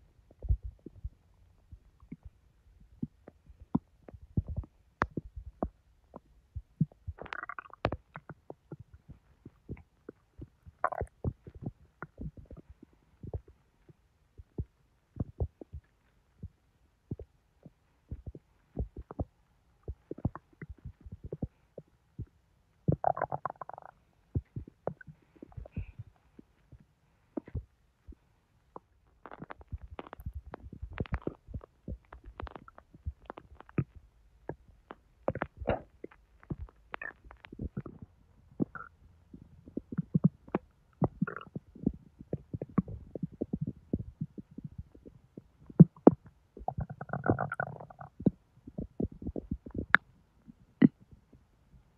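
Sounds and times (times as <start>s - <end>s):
stomach gurgle: 0.0s - 51.9s.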